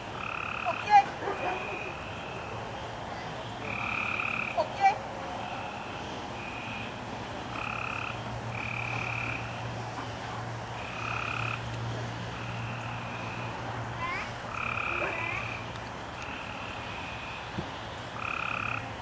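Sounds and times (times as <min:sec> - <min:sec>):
frogs calling: 0:00.0 - 0:09.8, 0:10.6 - 0:19.0.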